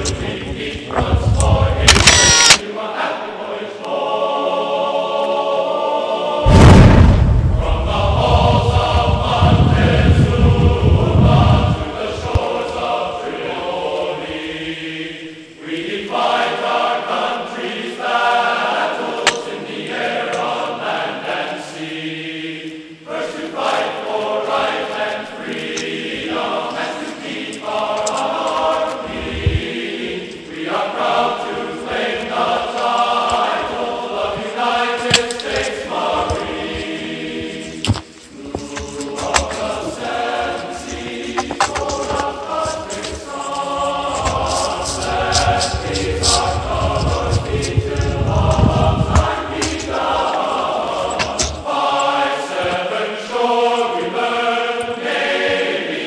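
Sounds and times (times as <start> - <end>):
choral chant-like singing: 0.0 - 56.0.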